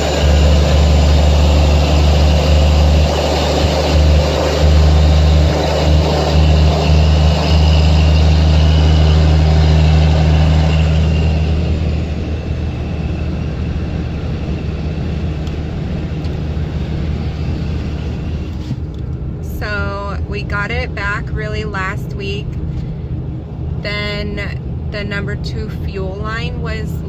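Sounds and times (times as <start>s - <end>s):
car engine drone: 0.0s - 27.0s.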